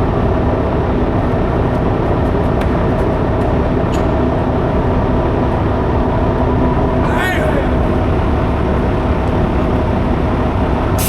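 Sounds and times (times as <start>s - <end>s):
heavy vehicle engine running: 0.0s - 11.0s.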